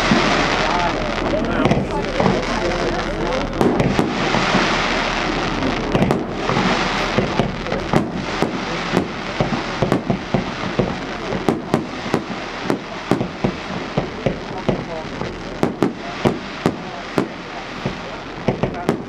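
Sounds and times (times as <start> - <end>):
fireworks bangs and pops: 0.0 - 19.0
fireworks hissing: 0.0 - 19.0.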